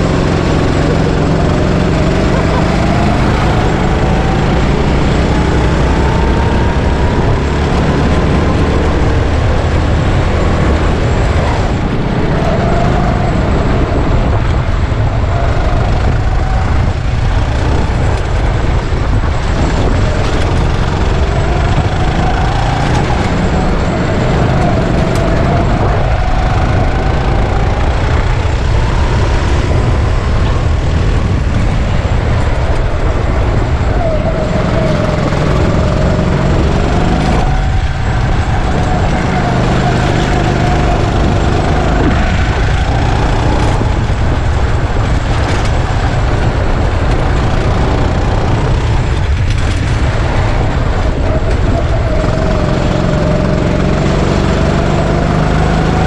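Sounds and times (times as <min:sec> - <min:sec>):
low rumble: 0:00.0 - 0:55.6
go-kart engine running: 0:00.0 - 0:56.0.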